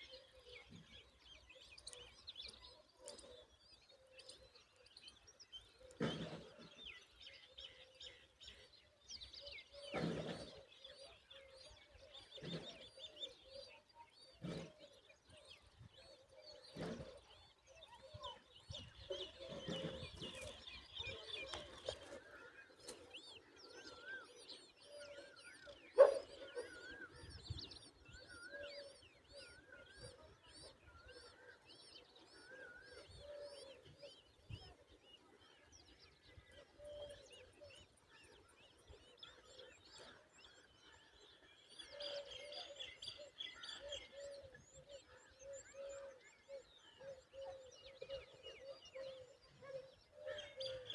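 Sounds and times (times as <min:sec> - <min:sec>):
birds chirping and calling: 0:00.0 - 0:50.9.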